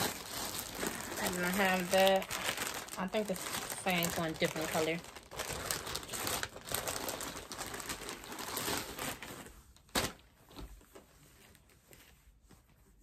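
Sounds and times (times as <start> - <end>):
packaging and clothing rustling: 0.0 - 13.0.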